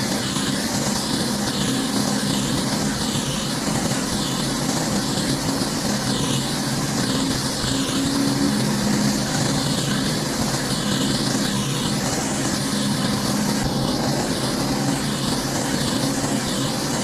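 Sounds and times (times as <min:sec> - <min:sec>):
pressure washer engine humming: 0:01.4 - 0:17.0.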